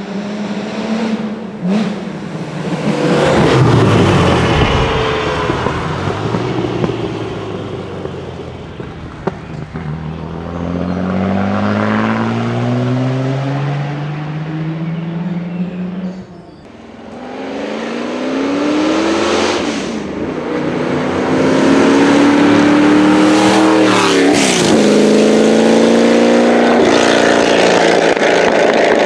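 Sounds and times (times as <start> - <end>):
car engine accelerating: 0.0 - 29.0
car engines passing: 0.0 - 29.0.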